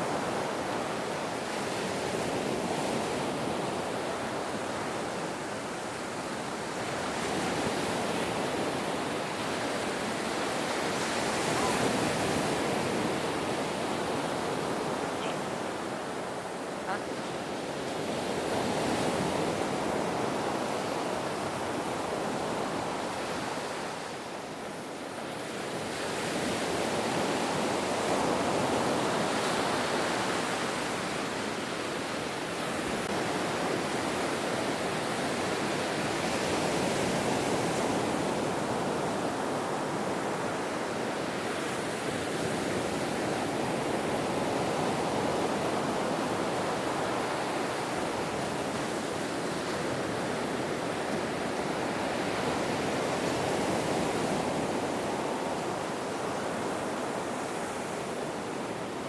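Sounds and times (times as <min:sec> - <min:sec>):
ocean waves on shore: 0:00.0 - 0:59.0.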